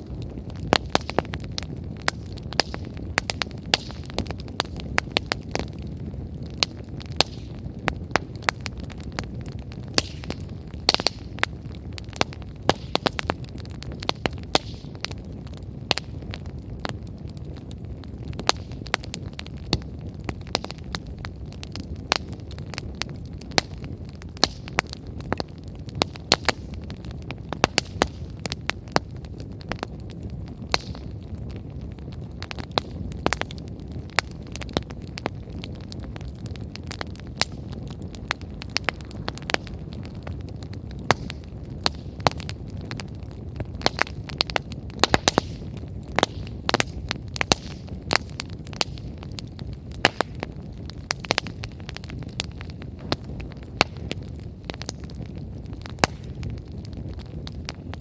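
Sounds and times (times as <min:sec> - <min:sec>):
bonfire crackling and popping: 0:00.0 - 0:58.0.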